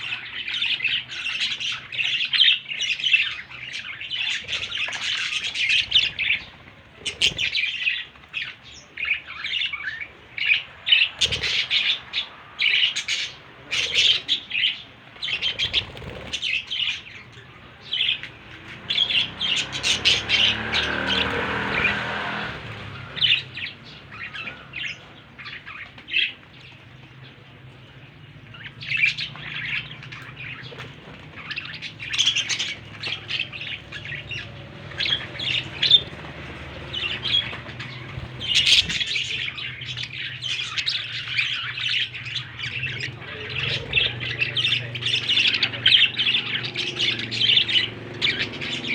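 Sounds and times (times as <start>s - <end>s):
budgerigars chirping and squawking: 0.0s - 48.9s.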